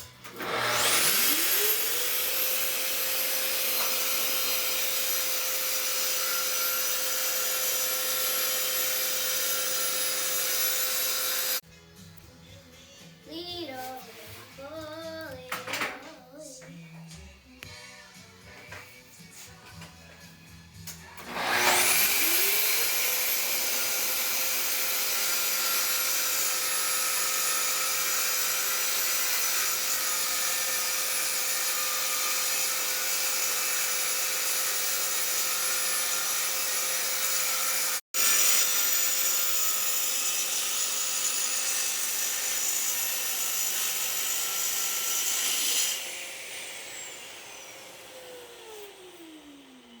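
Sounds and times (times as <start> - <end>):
track saw cutting: 0.0 - 11.6, 21.2 - 50.0
saw motor winding down: 0.3 - 11.6, 21.2 - 50.0.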